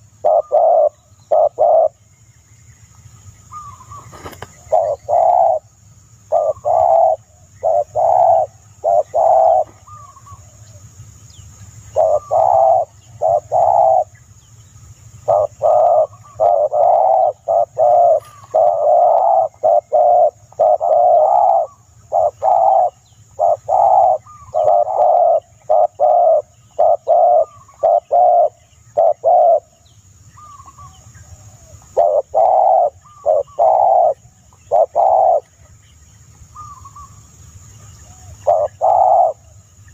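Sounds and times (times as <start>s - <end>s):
faint high hiss: 0.0s - 39.9s.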